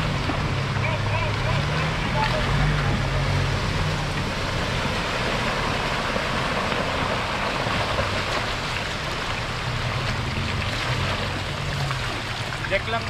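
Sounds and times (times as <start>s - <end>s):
car engine running low: 0.0s - 13.0s
creek water rushing and splashing: 0.0s - 13.0s.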